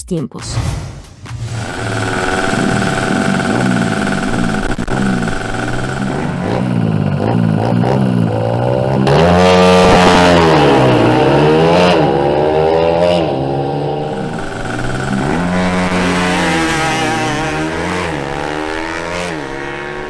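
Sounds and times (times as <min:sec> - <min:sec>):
motorcycle engines revving: 0:01.3 - 0:20.0.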